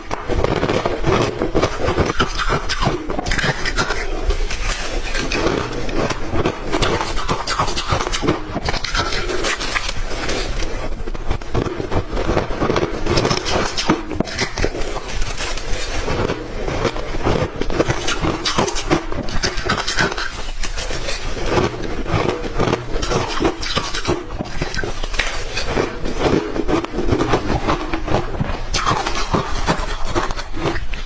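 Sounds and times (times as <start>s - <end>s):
ice crunched between teeth: 0.0s - 31.0s.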